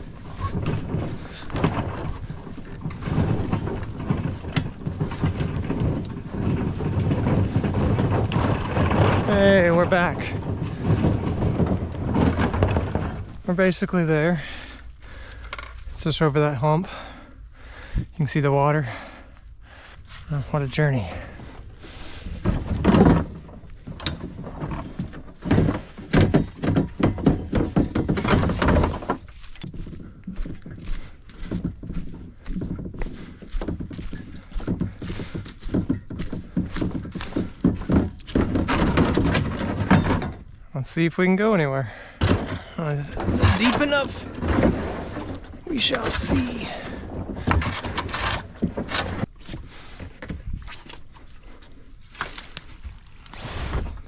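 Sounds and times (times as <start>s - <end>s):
kayak hollow thumps: 0.0s - 15.8s, 19.7s - 40.6s, 42.2s - 54.0s
knocks and rattles: 0.0s - 53.1s
trailer wheels rumbling over roots: 0.0s - 54.0s.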